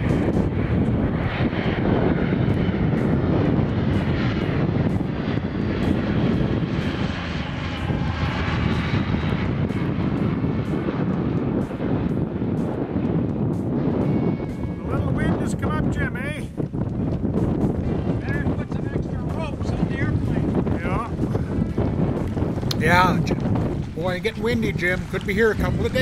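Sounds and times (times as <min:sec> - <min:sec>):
propeller plane flying overhead: 0:00.0 - 0:26.0.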